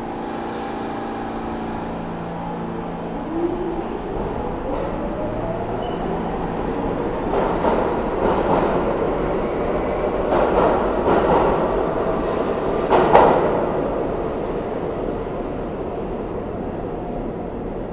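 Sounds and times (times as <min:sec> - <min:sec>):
train wheels rumbling: 0:00.0 - 0:15.2.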